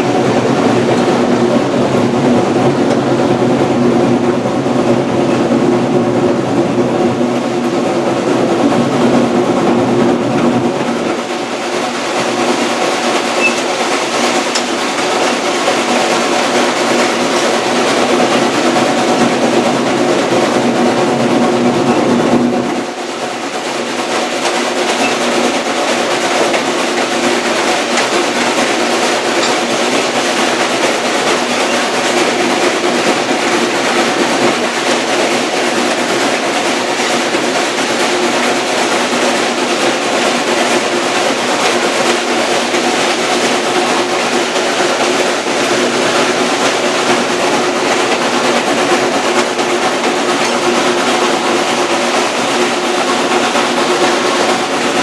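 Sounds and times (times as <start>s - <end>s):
train rumbling on the track: 0.0s - 55.0s.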